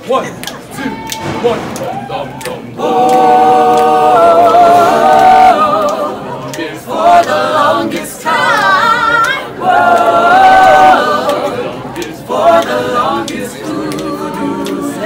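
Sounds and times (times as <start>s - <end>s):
boys singing a cappella: 2.2s - 15.0s.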